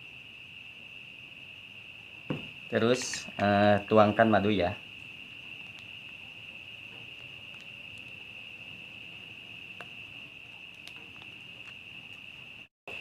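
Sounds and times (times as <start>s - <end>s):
high-pitched cricket trill: 0.0s - 13.0s.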